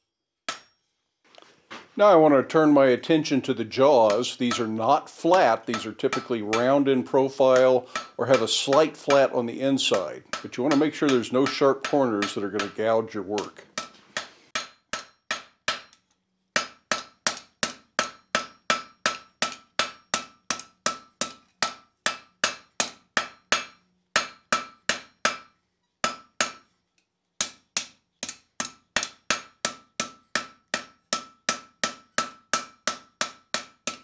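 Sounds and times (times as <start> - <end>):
hammer striking steel on anvil: 0.5 - 0.8, 4.0 - 26.7, 27.4 - 34.0.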